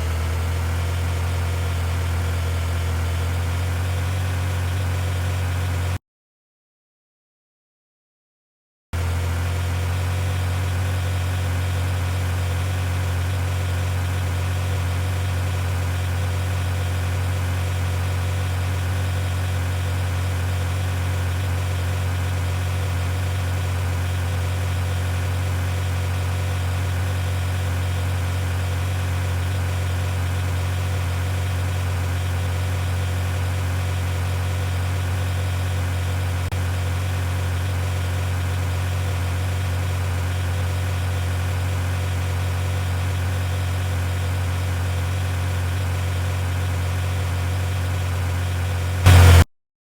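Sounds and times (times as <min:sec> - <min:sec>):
vehicle engine idling: 0:00.0 - 0:06.0, 0:09.0 - 0:49.4.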